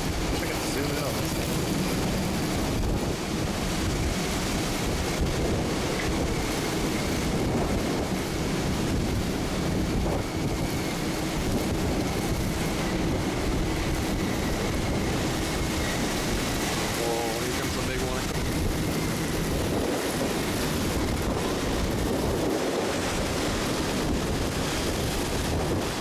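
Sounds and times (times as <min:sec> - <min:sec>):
driving rain: 0:00.0 - 0:26.0
strong wind rushing: 0:00.0 - 0:26.0
wind buffeting the microphone: 0:00.0 - 0:26.0.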